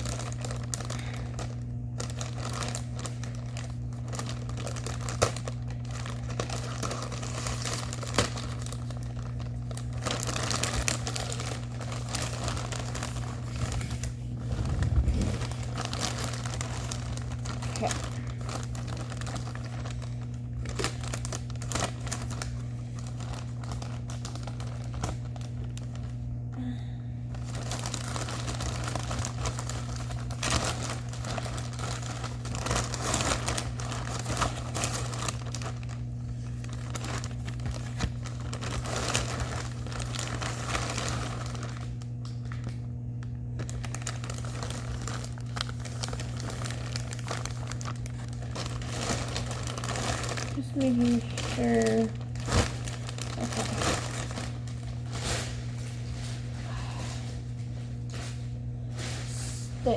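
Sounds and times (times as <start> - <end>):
plastic packaging crinkling: 0.0 - 59.9
steady low hum: 0.0 - 59.9.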